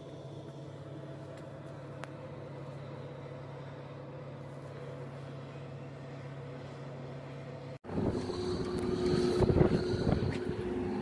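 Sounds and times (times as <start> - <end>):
faint hum: 0.0 - 11.0
heavy machinery drone: 0.0 - 11.0.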